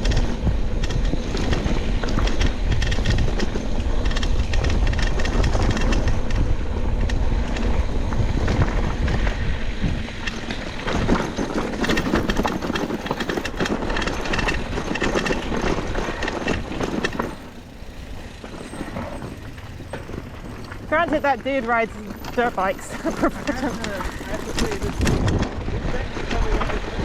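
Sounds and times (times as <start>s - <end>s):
bike rattling and clicking: 0.0s - 27.0s
bike tyres rumbling: 0.0s - 27.0s.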